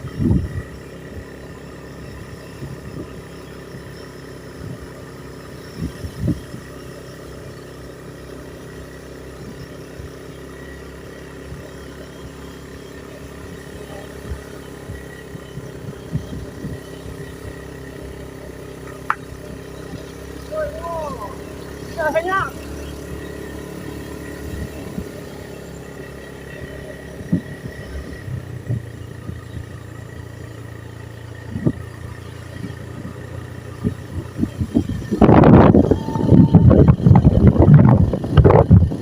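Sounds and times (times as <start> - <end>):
engine running: 0.0 - 39.0.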